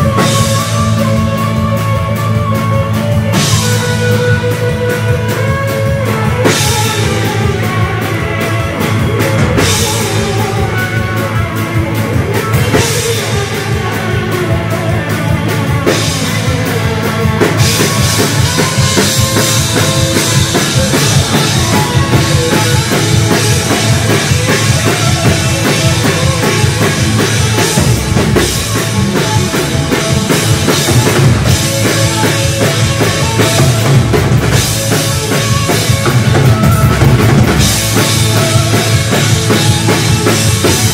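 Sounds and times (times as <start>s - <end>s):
bass guitar: 0.0s - 40.9s
drum kit beat: 0.0s - 40.9s
electric guitars: 0.0s - 40.9s
pedal steel guitar: 0.0s - 40.9s.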